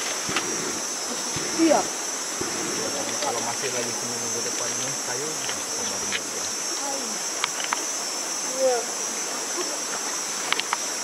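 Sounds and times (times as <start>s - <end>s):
jungle insects droning: 0.0s - 11.0s.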